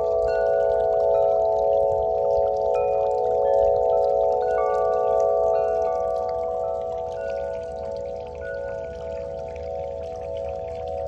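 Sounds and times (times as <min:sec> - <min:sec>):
wind chime ringing deep tones: 0:00.0 - 0:11.0.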